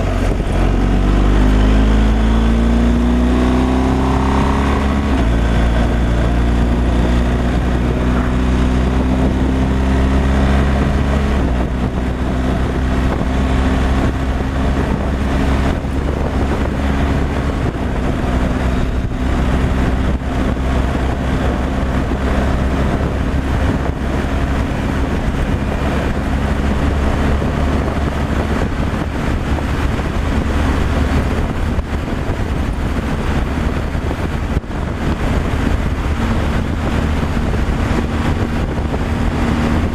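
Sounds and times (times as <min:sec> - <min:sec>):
road and wind noise: 0:00.0 - 0:39.9
truck diesel engine running: 0:00.0 - 0:39.9.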